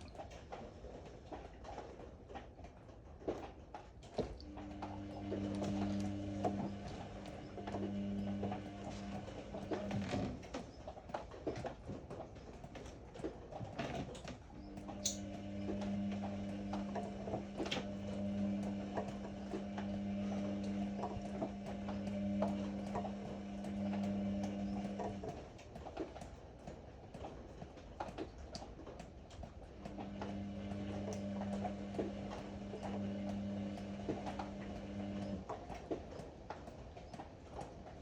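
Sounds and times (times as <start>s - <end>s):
washer drum motor humming: 4.2s - 38.0s.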